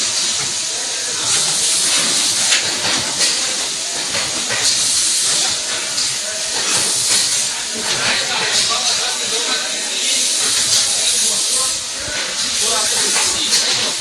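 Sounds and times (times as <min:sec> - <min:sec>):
hydraulic bending machine hissing: 0:00.0 - 0:14.0.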